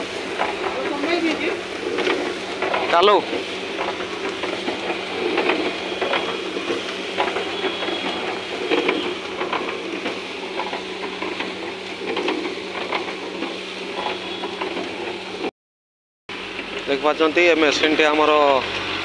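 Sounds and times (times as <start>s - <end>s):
crackles and clicks: 0.0s - 15.5s
low machine hum: 0.0s - 15.5s
rice grains rattling in drum: 0.0s - 15.5s.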